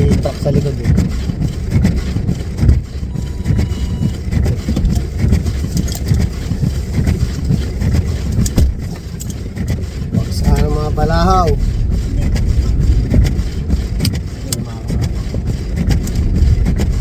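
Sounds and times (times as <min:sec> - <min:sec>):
truck driving through snow: 0:00.0 - 0:17.0.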